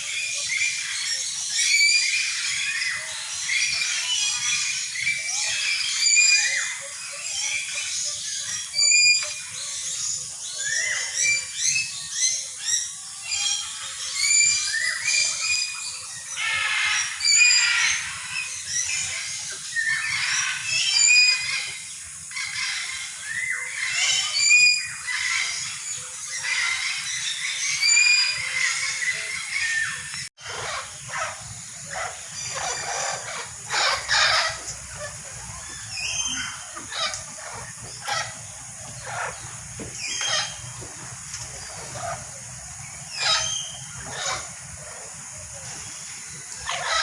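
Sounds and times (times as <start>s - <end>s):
birds squawking and chirping: 0.0s - 47.0s.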